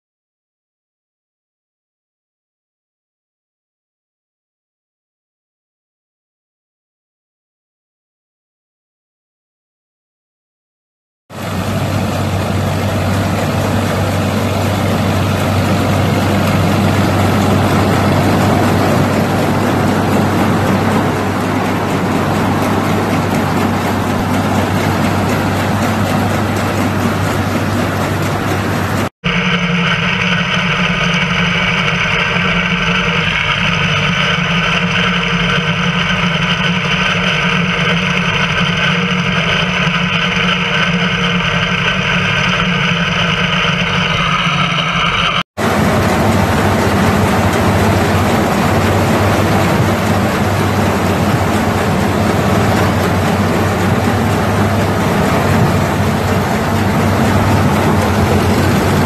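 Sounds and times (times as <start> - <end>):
tractor engine under load: 11.3 - 59.0.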